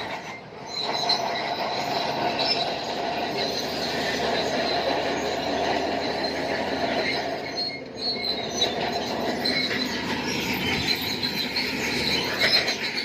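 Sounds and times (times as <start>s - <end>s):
bulldozer engine noise: 0.0s - 13.0s
steel tracks squealing and clanking: 0.0s - 13.0s.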